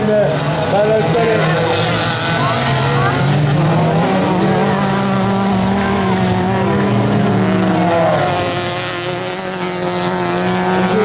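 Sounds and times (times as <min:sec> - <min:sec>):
racing car engines revving: 0:00.0 - 0:11.0.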